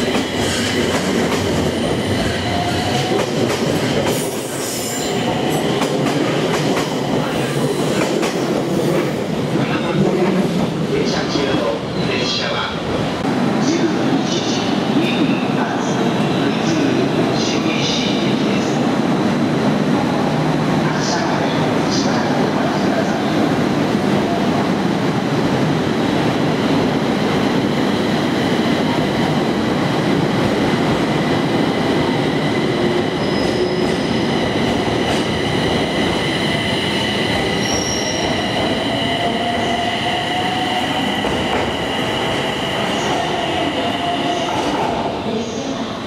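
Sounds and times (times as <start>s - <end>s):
train wheels rumbling on rails: 0.0s - 12.0s, 12.9s - 45.6s.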